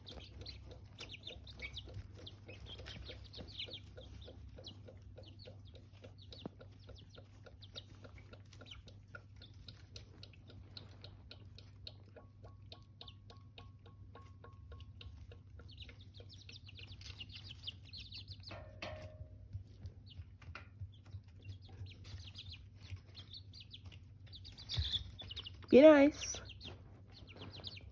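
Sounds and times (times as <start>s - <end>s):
chicks peeping: 0.0s - 27.9s
low steady hum: 0.0s - 27.9s.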